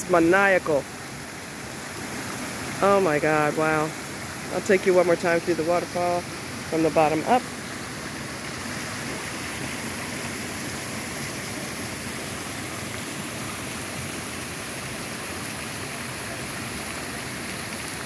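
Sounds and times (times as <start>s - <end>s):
waterfall and creek rushing: 0.0s - 18.0s.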